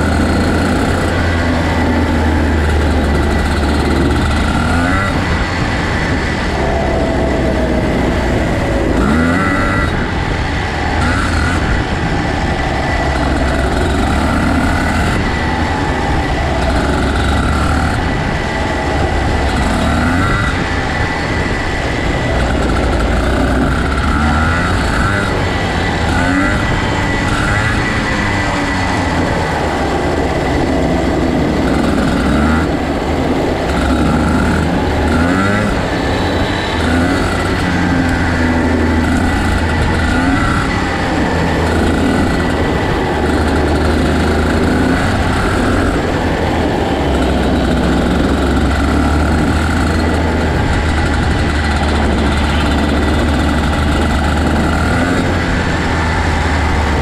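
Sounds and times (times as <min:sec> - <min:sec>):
kart engines revving: 0:00.0 - 0:57.0.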